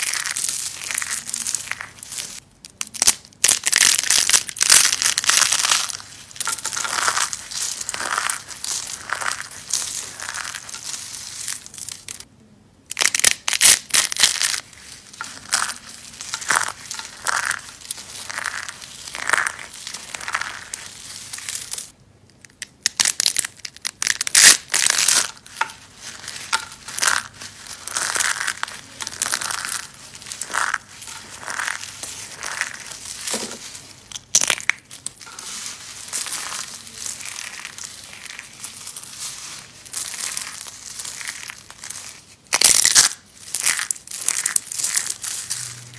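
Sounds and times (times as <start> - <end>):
soap being crushed: 0.0 - 12.3, 12.9 - 45.9.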